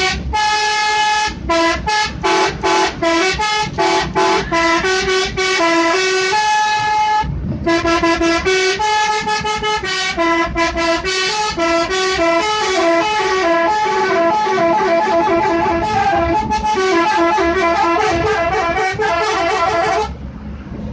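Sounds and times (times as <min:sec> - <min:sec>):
musical air horn melody: 0:00.0 - 0:20.1.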